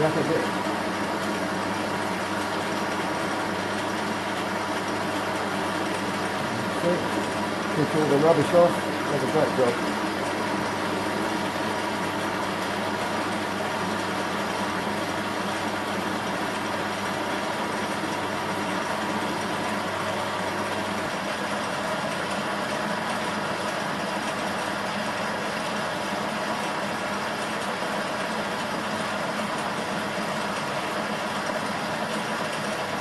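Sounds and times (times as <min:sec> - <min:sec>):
metal lathe motor humming: 0:00.0 - 0:33.0.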